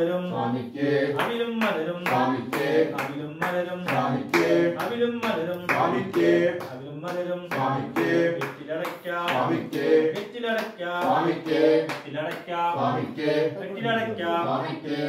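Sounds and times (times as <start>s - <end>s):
men singing a chant: 0.0s - 15.0s
rhythmic hand-clapping: 0.0s - 15.0s.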